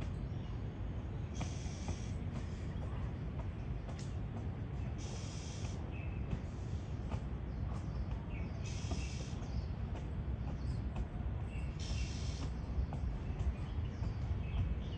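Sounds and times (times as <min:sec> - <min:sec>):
low background rumble: 0:00.0 - 0:14.9.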